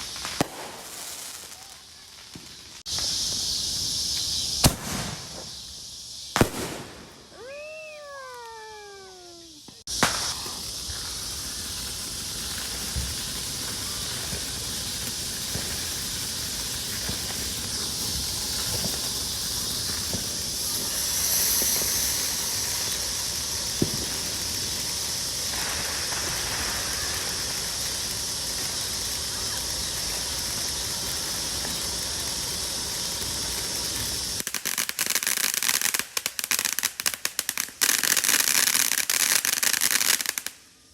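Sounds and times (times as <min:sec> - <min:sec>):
firework pops: 0:00.0 - 0:05.6, 0:06.3 - 0:11.6, 0:12.4 - 0:40.6
firework hissing: 0:00.0 - 0:40.9.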